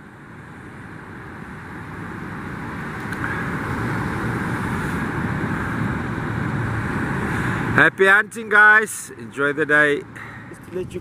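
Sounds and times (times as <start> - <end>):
outboard motors running: 0.0 - 11.0.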